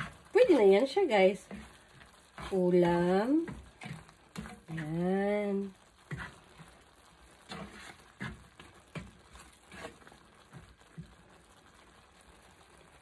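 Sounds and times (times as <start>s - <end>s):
spoon scraping a frying pan: 0.0s - 11.4s
faint simmering sizzle: 0.0s - 13.0s.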